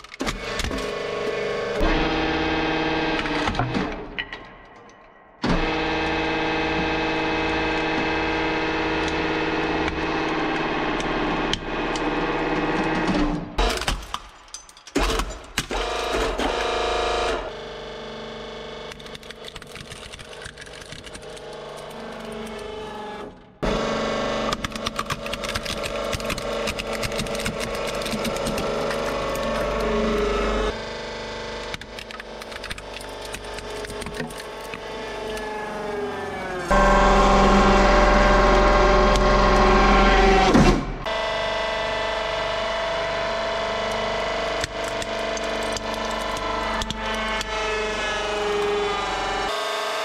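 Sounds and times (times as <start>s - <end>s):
hydraulic press motor humming: 0.0s - 4.4s, 5.4s - 19.6s, 20.4s - 49.6s.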